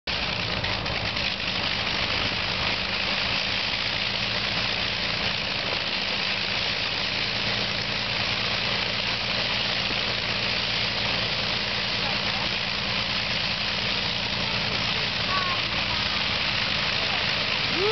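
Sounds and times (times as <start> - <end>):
piston engines idling: 0.1 - 17.9
steady hiss: 0.1 - 17.9.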